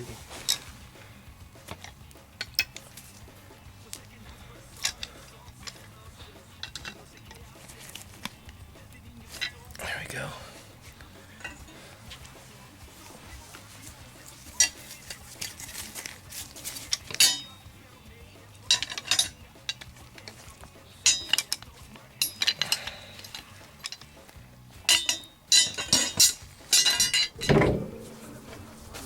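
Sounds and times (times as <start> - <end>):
wire shelving clinking and rattling: 4.2 - 17.7, 18.4 - 29.0.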